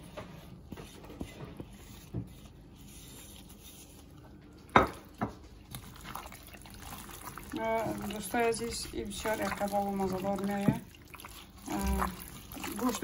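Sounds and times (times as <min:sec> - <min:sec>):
hands squishing raw meat: 0:01.1 - 0:13.0.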